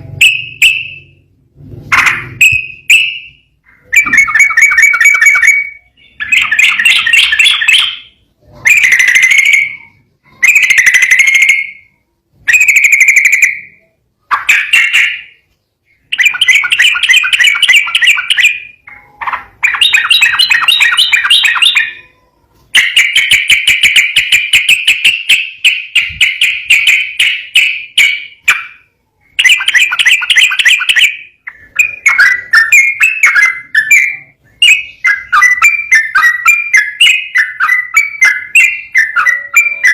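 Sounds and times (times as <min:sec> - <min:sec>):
bulbul singing trills: 0:01.9 - 0:39.9.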